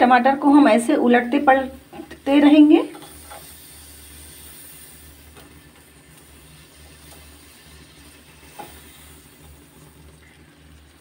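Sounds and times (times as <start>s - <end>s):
gas burner flame hissing: 0.0s - 11.0s.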